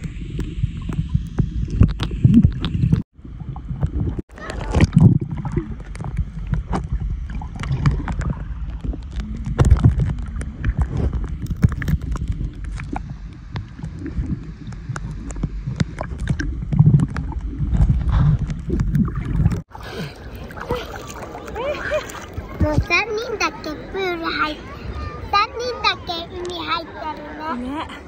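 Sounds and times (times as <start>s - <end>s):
small underwater clicks and crackles: 0.0s - 22.9s
underwater rumble of water: 0.0s - 25.4s.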